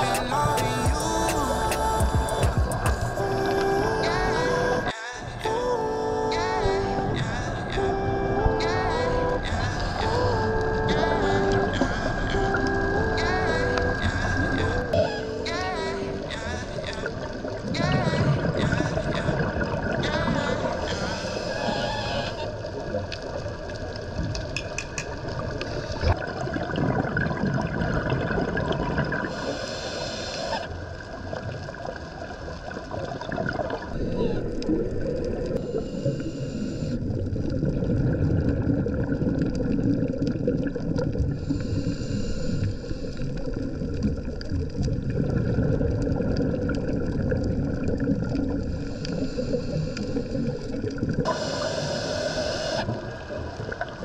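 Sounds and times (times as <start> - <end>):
underwater rushing water: 0.0 - 54.0.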